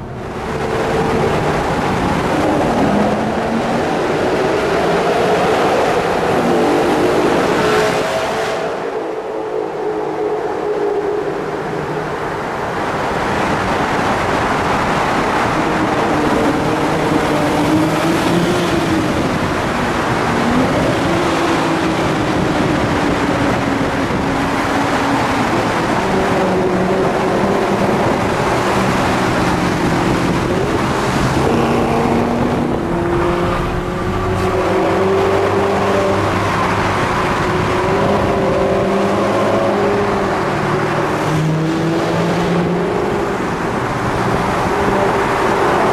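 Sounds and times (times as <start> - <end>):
sports car engines revving: 0.0 - 45.9.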